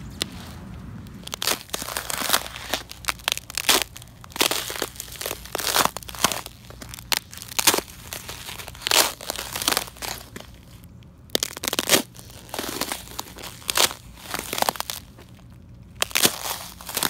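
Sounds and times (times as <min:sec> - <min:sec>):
boots crunching on ice: 0:00.2 - 0:17.0.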